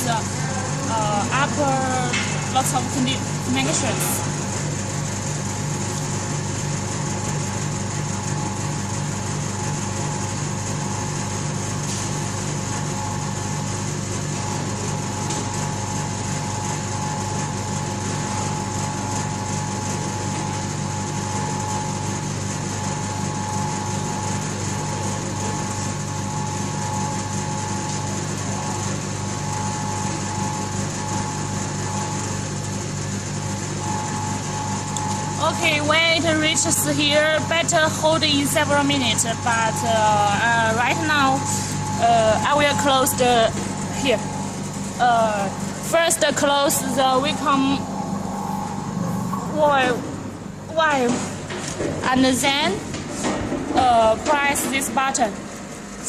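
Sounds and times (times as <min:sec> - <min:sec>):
vacuum pump pulsing hum: 0:00.0 - 0:56.0.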